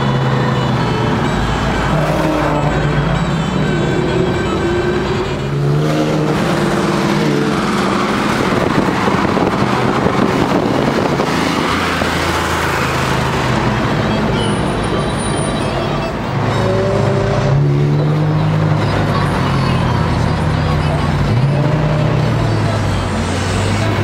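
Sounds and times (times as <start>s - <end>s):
car engine revving and accelerating: 0.0s - 15.1s, 16.2s - 24.0s.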